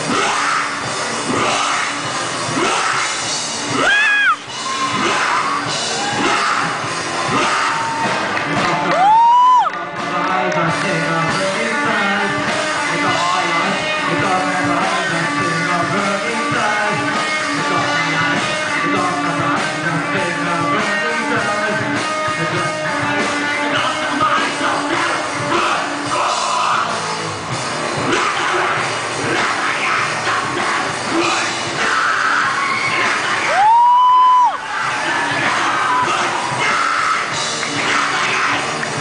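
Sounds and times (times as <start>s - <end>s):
singer on microphone: 0.0s - 27.3s, 28.0s - 39.0s
rock band playing: 0.0s - 39.0s.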